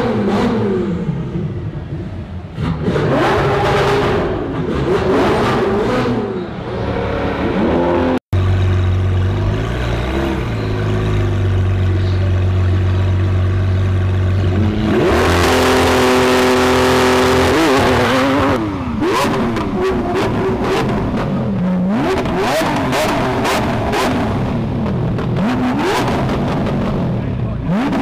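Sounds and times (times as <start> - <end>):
sports car engine revving: 2.5 - 28.0.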